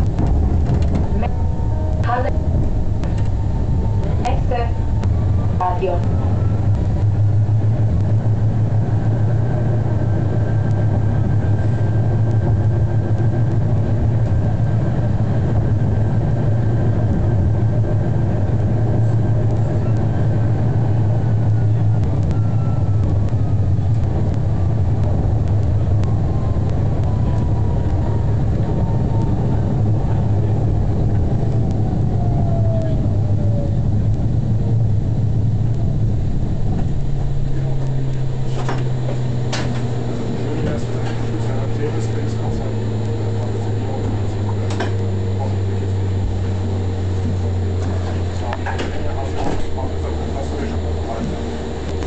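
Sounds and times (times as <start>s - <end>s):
tram running on track: 0.0s - 52.0s.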